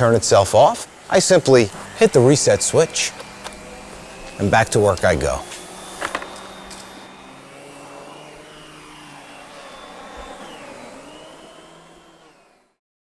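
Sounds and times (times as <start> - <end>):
vacuum cleaner whirring: 0.0 - 12.8.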